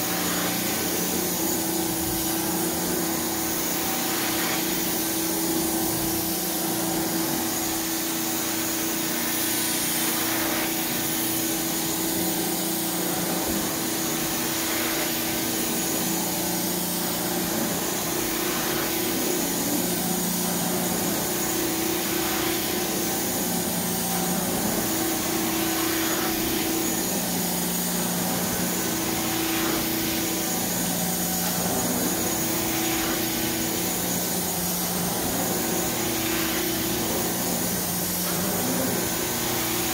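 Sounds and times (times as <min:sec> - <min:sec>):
vacuum suction on carpet: 0:00.0 - 0:39.9.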